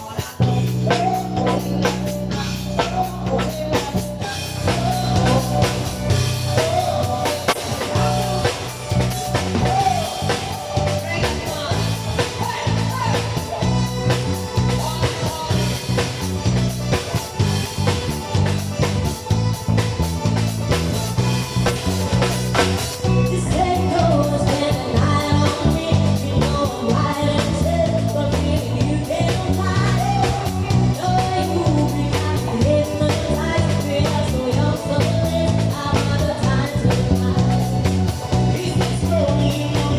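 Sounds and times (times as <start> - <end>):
band playing music: 0.0 - 39.9
drum kit beat: 0.0 - 39.9.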